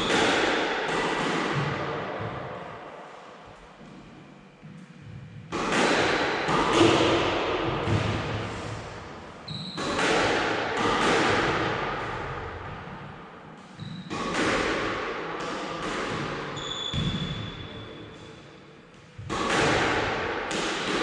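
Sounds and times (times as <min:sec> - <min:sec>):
squash ball hitting court walls: 0:00.0 - 0:03.0, 0:04.6 - 0:21.0.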